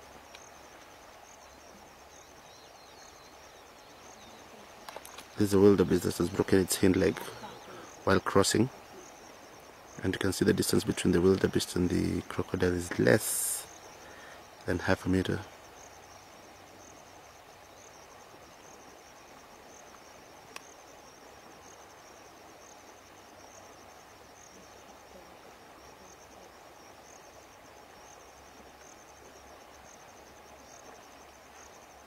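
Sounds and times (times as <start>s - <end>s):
insect chirping: 0.0s - 32.0s
steady hiss: 0.0s - 32.0s.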